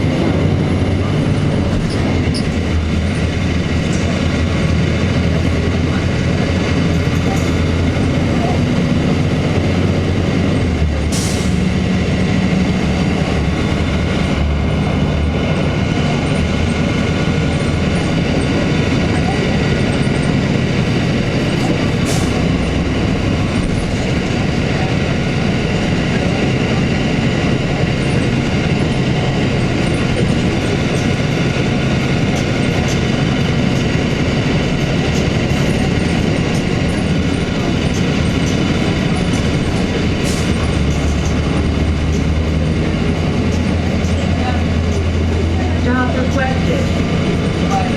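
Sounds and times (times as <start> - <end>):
bus diesel engine drone: 0.0 - 47.9
road noise: 0.0 - 47.9.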